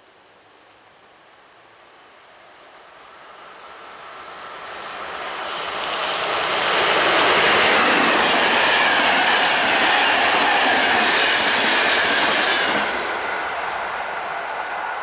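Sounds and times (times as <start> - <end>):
passenger train passing at speed: 2.5 - 15.0.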